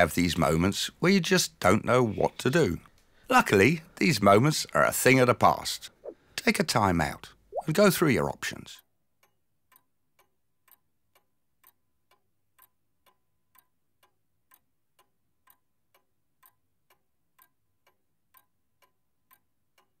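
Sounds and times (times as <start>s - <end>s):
faint clock ticking: 0.0s - 20.0s.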